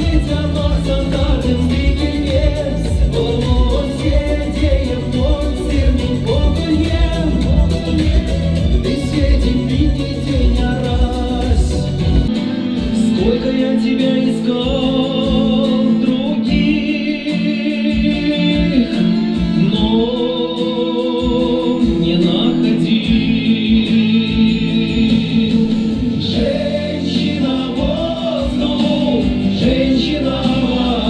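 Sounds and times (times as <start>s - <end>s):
instrumental accompaniment: 0.0s - 31.0s
man singing into a microphone: 0.0s - 31.0s.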